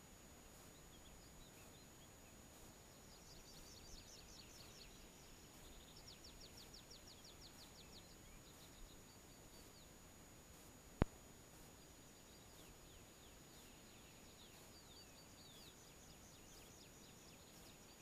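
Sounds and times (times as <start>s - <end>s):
faint songbird song: 0.0s - 18.0s
faint steady hiss: 0.0s - 18.0s.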